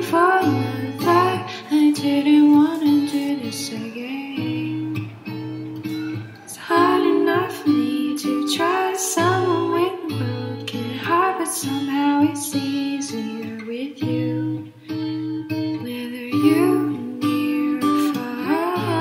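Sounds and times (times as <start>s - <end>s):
person singing: 0.0s - 5.2s, 6.0s - 14.7s, 15.6s - 19.0s
acoustic guitar: 0.0s - 19.0s.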